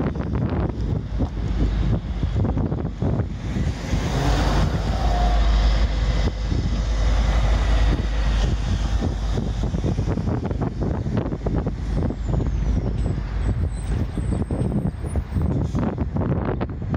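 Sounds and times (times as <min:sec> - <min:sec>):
road traffic noise: 0:00.0 - 0:16.9
wind buffeting microphone: 0:00.0 - 0:16.9.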